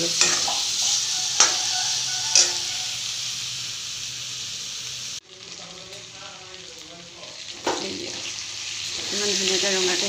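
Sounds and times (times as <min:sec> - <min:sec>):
pork sizzling in fat: 0:00.0 - 0:10.0.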